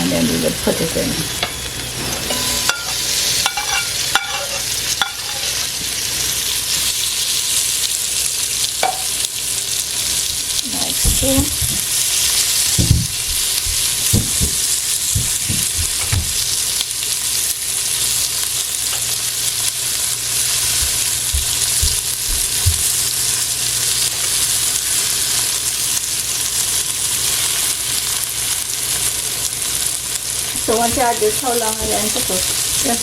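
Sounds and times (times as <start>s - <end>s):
okra sizzling in oil: 0.0s - 33.0s.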